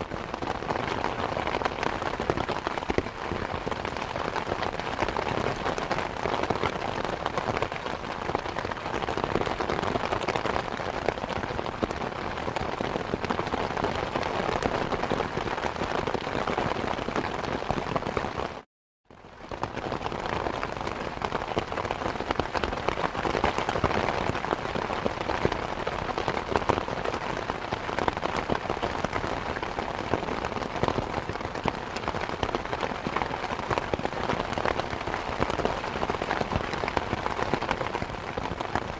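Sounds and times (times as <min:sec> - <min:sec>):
rain falling: 0:00.0 - 0:18.6, 0:19.2 - 0:38.9.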